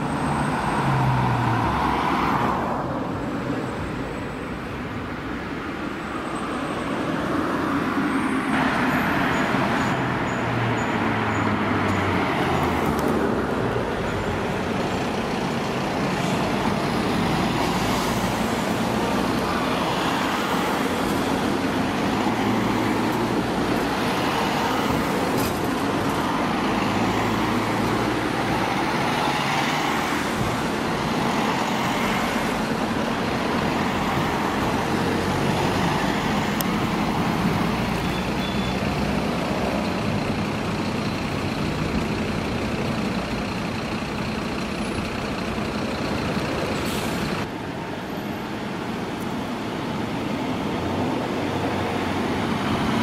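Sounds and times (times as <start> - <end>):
diesel engines of passing vehicles: 0.0 - 53.0
tyres hissing on road: 3.5 - 53.0.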